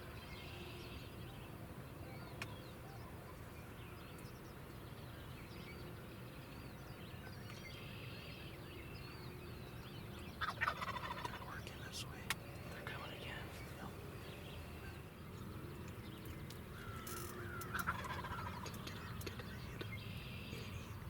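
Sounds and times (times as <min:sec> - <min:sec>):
low background noise: 0:00.0 - 0:21.0
small birds chirping: 0:00.0 - 0:21.0.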